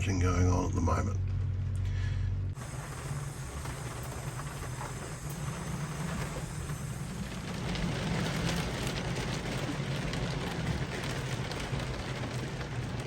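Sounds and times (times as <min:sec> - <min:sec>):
low rumble of wind: 0:00.0 - 0:13.0
rain falling on a boat: 0:01.3 - 0:13.0.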